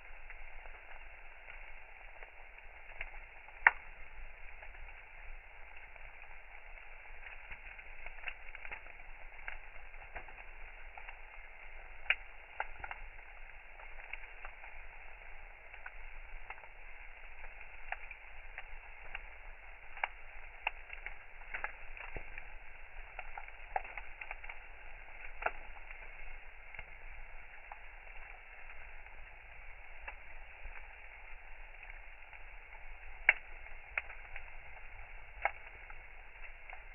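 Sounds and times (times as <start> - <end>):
bonfire crackling and popping: 0.0 - 36.9
fire hiss: 0.0 - 36.9.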